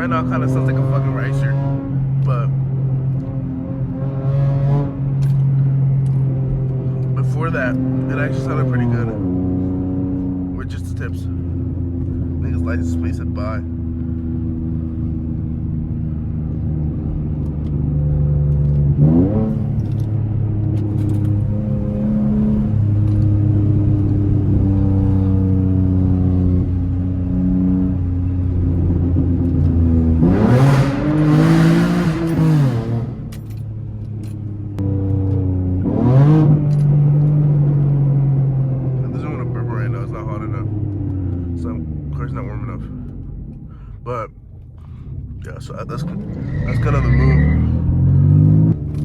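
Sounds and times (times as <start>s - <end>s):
car engine revving: 0.0s - 44.2s, 44.8s - 49.0s.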